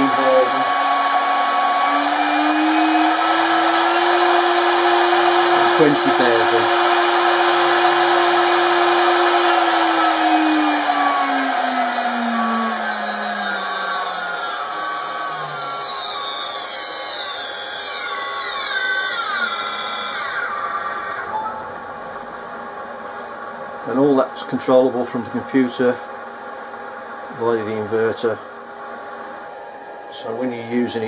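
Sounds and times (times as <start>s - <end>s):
spindle motor whine: 0.0s - 31.0s.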